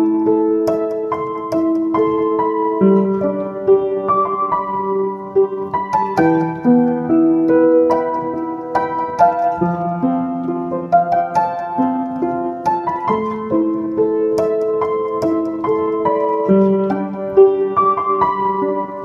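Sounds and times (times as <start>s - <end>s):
slow keyboard piano music: 0.0s - 19.0s.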